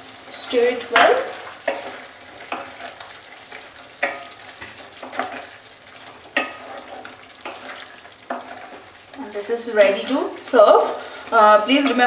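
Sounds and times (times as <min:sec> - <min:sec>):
low sizzle: 0:00.0 - 0:12.0
spatula scraping a frying pan: 0:00.1 - 0:12.0.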